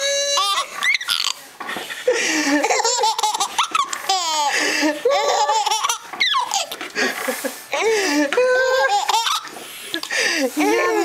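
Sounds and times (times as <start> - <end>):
baby laughing: 0.0 - 1.4, 2.4 - 11.0.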